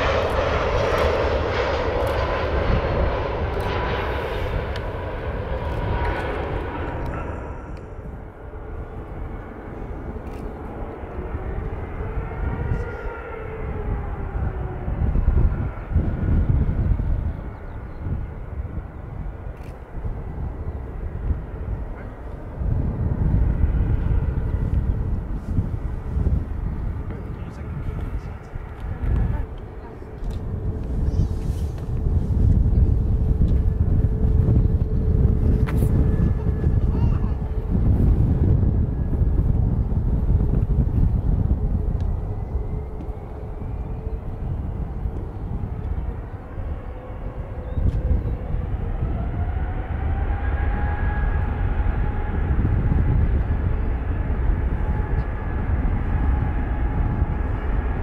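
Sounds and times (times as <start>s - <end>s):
jet engines rumbling with whine: 0.0s - 58.0s
wind buffeting microphone: 0.0s - 58.0s.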